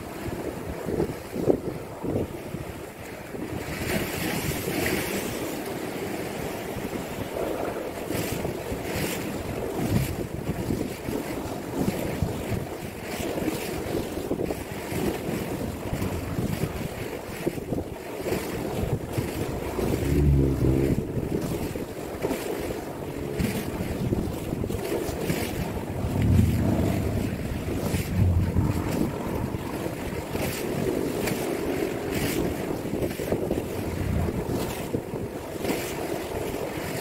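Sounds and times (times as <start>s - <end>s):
waves breaking against seawall: 0.0s - 37.0s
wind buffeting microphone: 0.0s - 37.0s.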